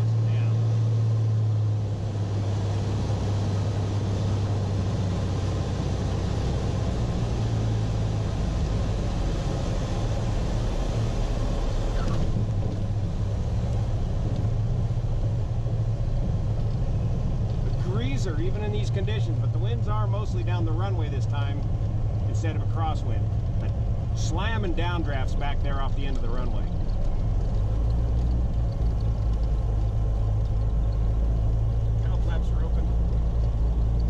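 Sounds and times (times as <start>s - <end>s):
airplane engine and propeller droning: 0.0s - 34.0s.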